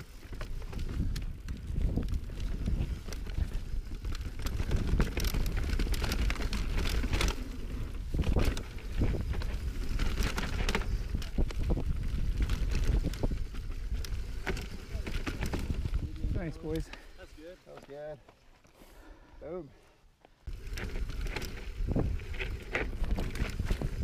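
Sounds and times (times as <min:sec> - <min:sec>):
bike knocking and rattling: 0:00.0 - 0:17.1, 0:20.5 - 0:24.0
wind buffeting microphone: 0:00.3 - 0:16.9, 0:20.5 - 0:24.0.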